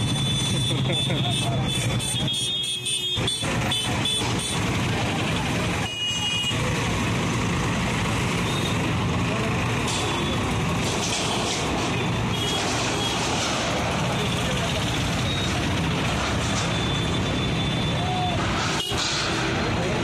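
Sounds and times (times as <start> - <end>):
backhoe loader diesel engine: 0.0 - 20.0.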